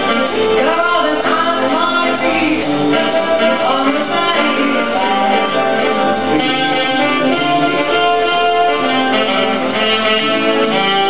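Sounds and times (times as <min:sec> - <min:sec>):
live instrumental music: 0:00.0 - 0:11.0.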